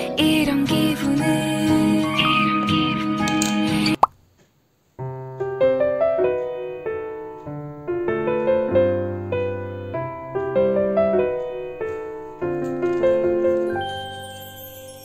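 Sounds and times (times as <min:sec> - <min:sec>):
piano music: 0:00.0 - 0:04.1, 0:05.0 - 0:15.0.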